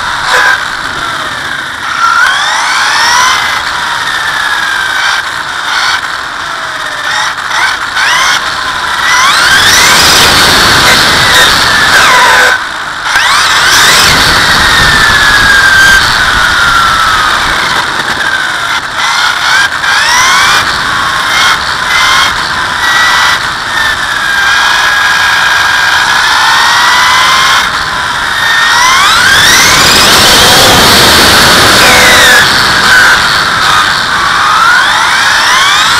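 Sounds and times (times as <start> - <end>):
electric motor whining: 0.0 - 35.9
tire and road noise: 0.0 - 35.9.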